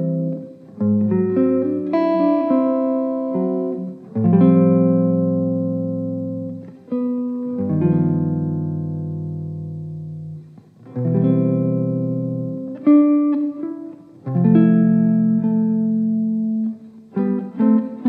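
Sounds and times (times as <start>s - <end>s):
guitar chords ringing: 0.0s - 18.0s.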